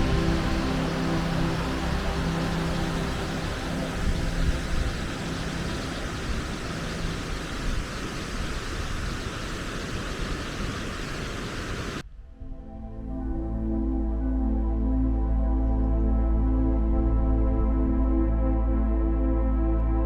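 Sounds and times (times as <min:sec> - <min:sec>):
faint held musical tones: 0:00.0 - 0:19.0.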